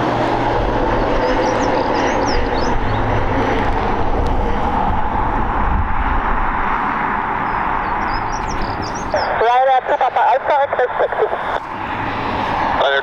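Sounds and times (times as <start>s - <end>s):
jet airliner engines running: 0.0s - 13.0s.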